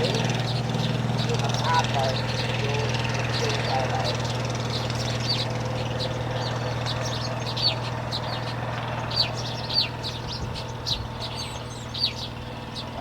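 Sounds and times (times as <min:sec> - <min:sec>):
birds chirping: 0:00.0 - 0:13.0
low hum: 0:00.0 - 0:13.0.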